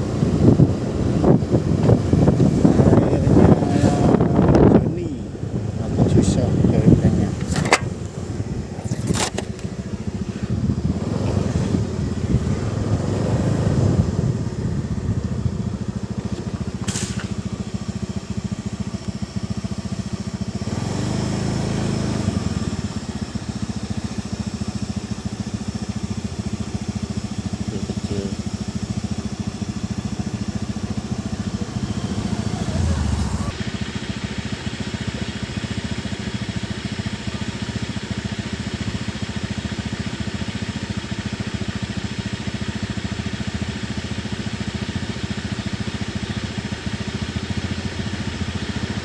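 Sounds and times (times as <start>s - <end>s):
small engine running: 0.0s - 49.0s.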